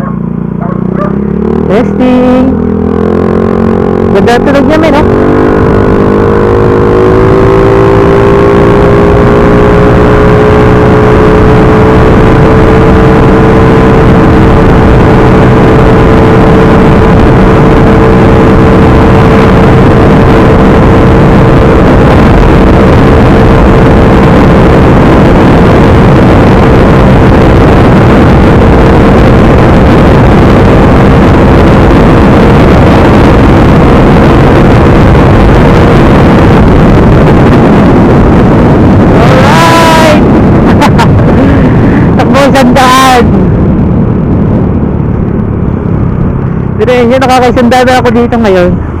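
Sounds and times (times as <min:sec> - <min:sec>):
loud motorcycle engine: 0:00.0 - 0:49.0
wind on microphone: 0:00.0 - 0:49.0.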